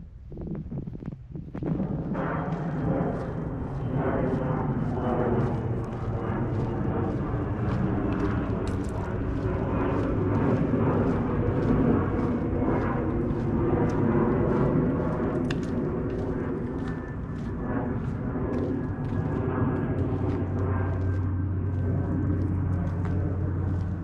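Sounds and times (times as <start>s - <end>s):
low rumble of wind: 0.0s - 24.0s
footsteps walking: 1.0s - 24.0s.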